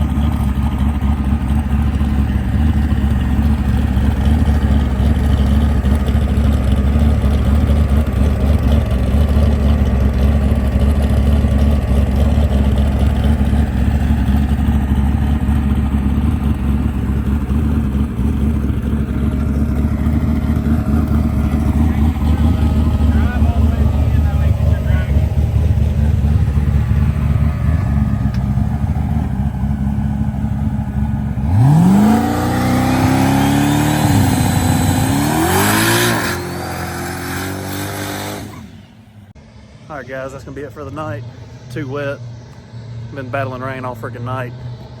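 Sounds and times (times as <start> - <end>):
vehicle engine rumbling: 0.0 - 45.0.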